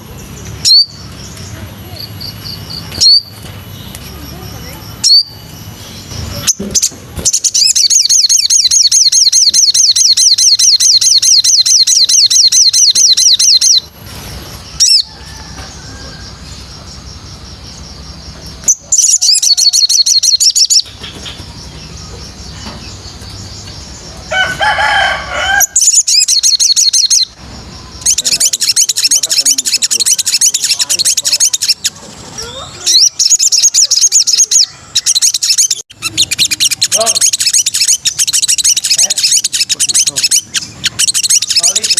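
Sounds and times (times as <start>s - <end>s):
lower warbling bird phrase: 4.1s - 13.9s, 14.7s - 20.9s, 21.5s - 41.9s
songbird high trills: 6.3s - 13.9s, 14.6s - 41.9s.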